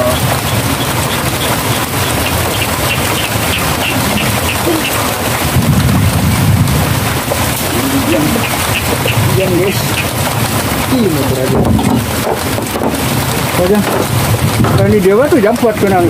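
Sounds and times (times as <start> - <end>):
light rain hissing: 0.0 - 16.0.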